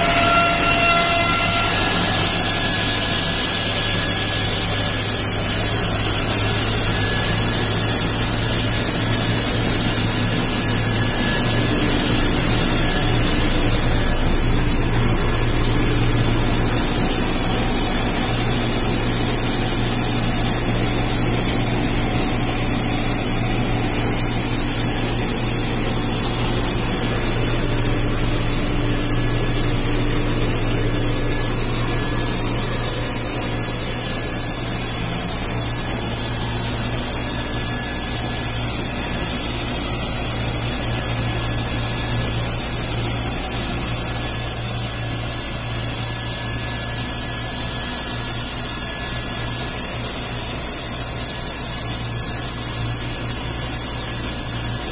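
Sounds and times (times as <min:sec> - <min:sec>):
pulverizer machine whirring: 0:00.0 - 0:54.9.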